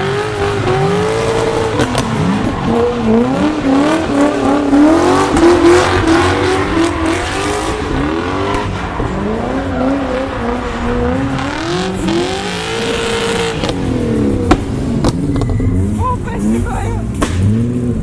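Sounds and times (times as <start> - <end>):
car engines revving: 0.0 - 18.0
tyre noise: 0.0 - 18.0.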